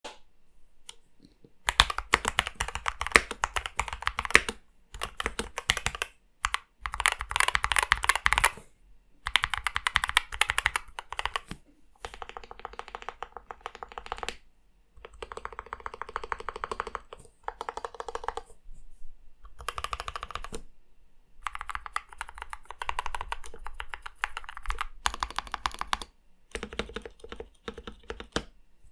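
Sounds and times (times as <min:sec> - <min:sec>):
fast typing on mechanical keyboard: 0:01.7 - 0:08.6, 0:09.2 - 0:14.4, 0:15.0 - 0:18.5, 0:19.5 - 0:20.6, 0:21.4 - 0:28.5.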